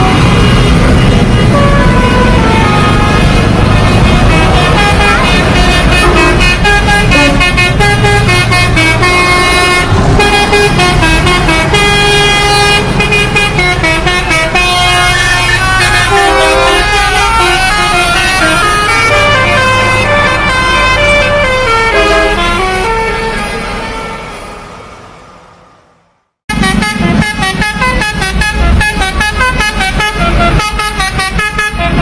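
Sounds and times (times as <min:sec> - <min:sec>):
truck air horn playing tune: 0:00.0 - 0:24.6, 0:26.5 - 0:32.0.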